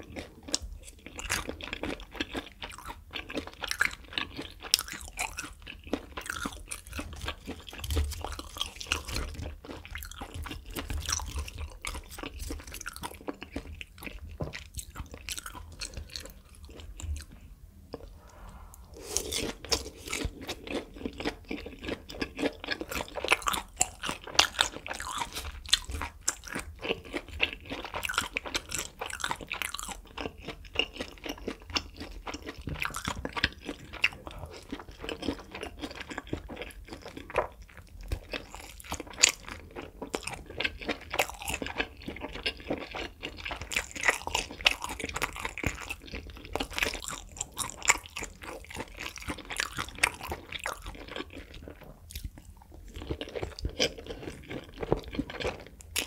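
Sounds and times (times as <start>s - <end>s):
chewing and crunching: 0.0s - 18.3s, 18.9s - 56.0s.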